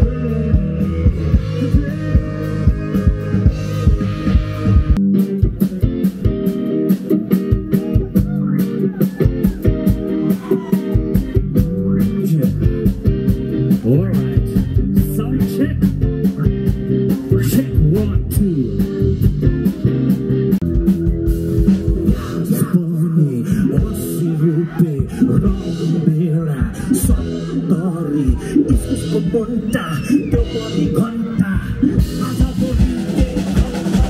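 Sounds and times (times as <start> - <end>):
person singing: 0.0 - 5.0, 7.3 - 13.0, 13.7 - 20.6, 21.8 - 34.0
drums with steady beat: 0.0 - 24.4, 25.0 - 34.0
bass guitar: 0.0 - 34.0
electric guitars: 0.0 - 34.0
live rock band playing: 0.0 - 34.0.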